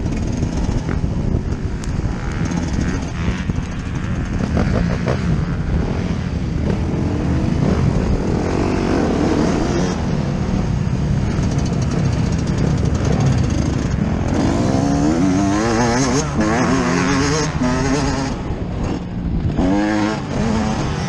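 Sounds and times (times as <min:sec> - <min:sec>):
motocross engine revving: 0:02.1 - 0:10.6, 0:11.2 - 0:21.0.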